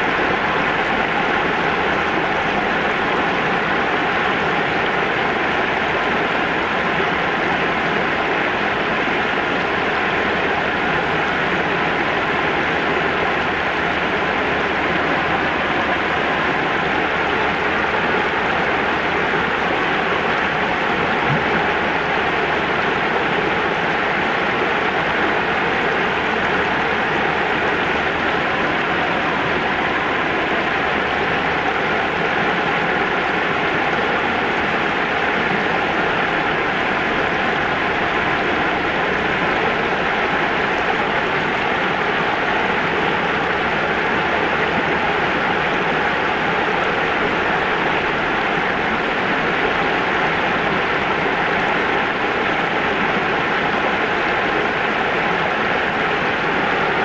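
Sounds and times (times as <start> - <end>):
river water rushing over weir: 0.0 - 57.0.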